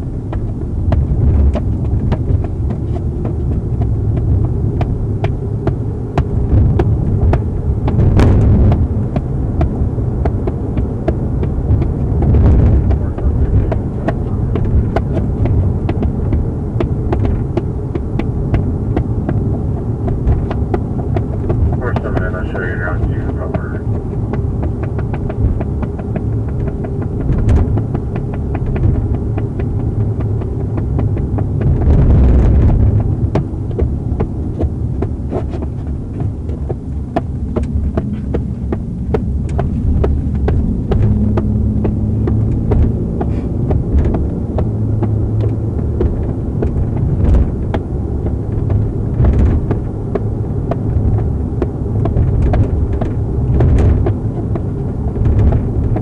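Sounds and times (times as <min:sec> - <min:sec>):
car cabin rumble and hum: 0:00.0 - 0:56.0.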